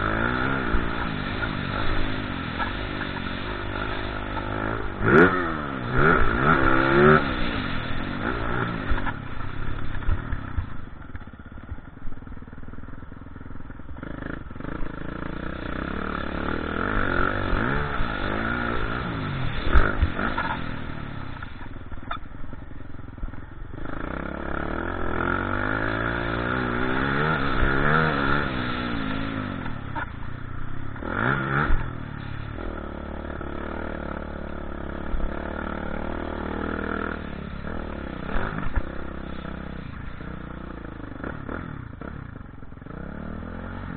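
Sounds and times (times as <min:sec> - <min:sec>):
motocross bike engine revving: 0:00.0 - 0:11.8, 0:13.6 - 0:22.6, 0:23.3 - 0:43.9.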